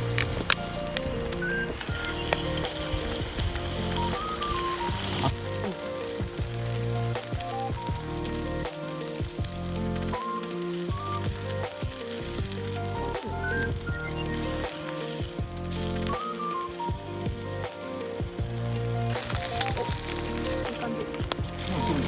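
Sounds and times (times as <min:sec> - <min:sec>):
background music: 0:00.0 - 0:22.0
food sizzling in a pan: 0:00.0 - 0:22.0.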